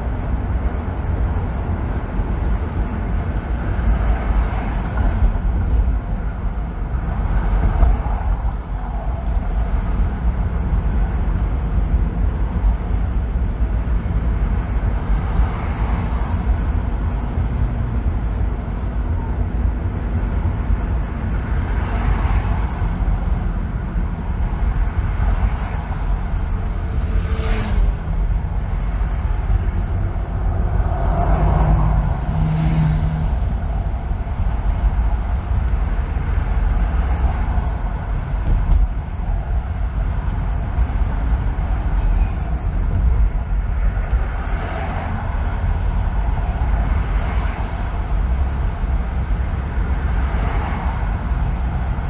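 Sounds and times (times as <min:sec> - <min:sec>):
car road noise: 0:00.0 - 0:52.0
vehicles passing: 0:00.0 - 0:52.0.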